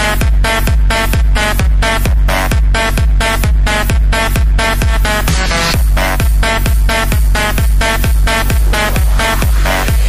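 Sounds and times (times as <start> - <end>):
kick drum: 0.0 - 10.0
repeated synth chords: 0.0 - 10.0.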